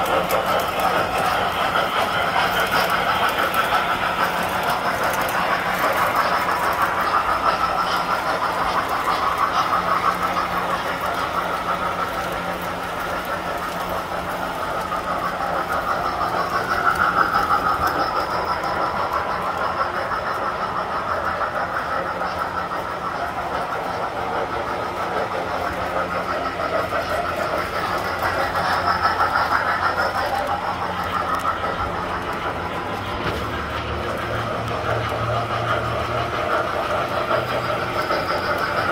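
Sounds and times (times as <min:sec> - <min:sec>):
model trains motors whirring: 0:00.0 - 0:38.9.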